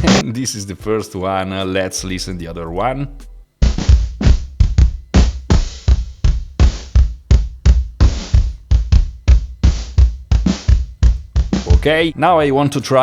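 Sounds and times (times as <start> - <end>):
drum machine beat: 0.0 - 12.8.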